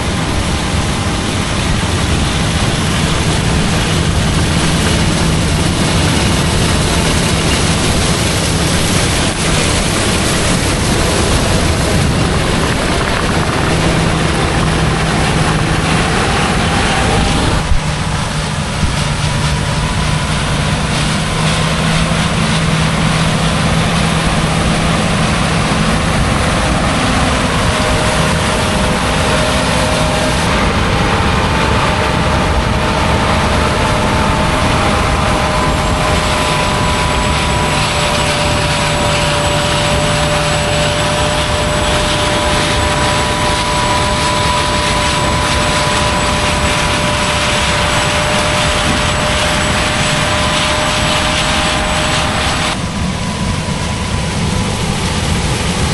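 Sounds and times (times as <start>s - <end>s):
faint mechanical whines: 0.0s - 55.9s
farm machinery droning: 0.0s - 55.9s.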